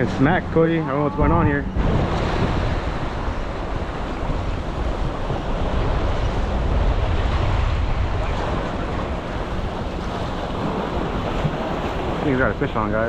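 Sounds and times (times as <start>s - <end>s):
surf washing against rocks: 0.0s - 13.0s
wind buffeting microphone: 0.0s - 13.0s.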